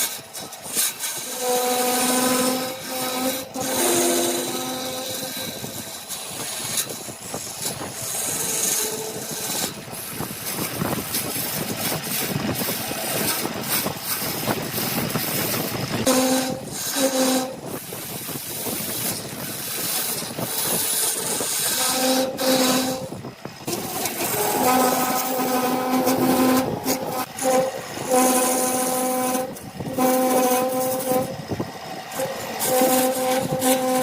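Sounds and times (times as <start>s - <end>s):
tool scraping spinning wood: 0.0s - 34.0s
wood lathe humming: 0.0s - 34.0s.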